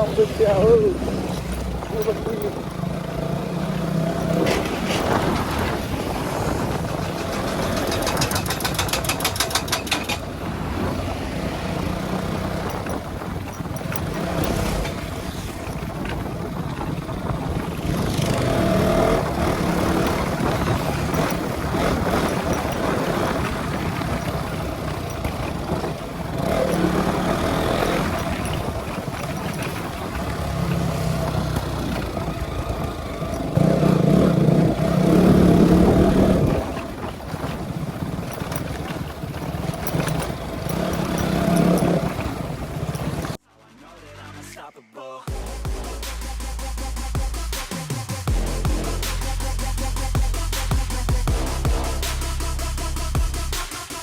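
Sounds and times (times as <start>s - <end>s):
motorcycle engine running: 0.0s - 43.4s, 45.3s - 54.0s.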